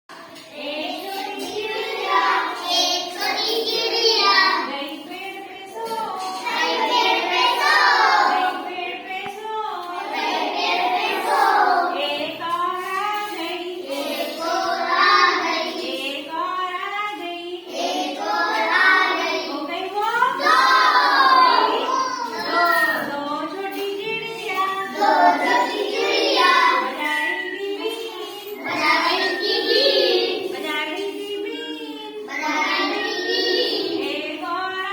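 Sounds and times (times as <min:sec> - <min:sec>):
child singing: 0:00.3 - 0:34.9.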